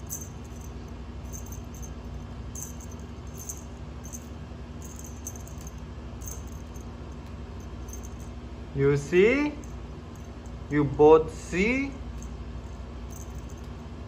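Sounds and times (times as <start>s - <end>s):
small bell jingling: 0.0s - 8.4s, 9.4s - 10.6s, 11.9s - 13.8s
steady low hum: 0.0s - 14.0s.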